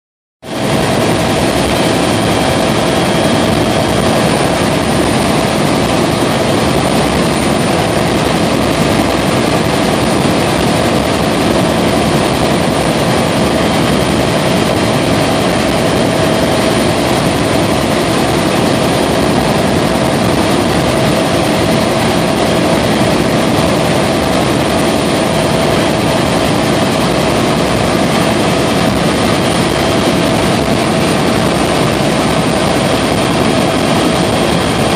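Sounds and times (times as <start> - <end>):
helicopter cabin roar: 0.4 - 34.9
steady whining tones: 0.5 - 34.9.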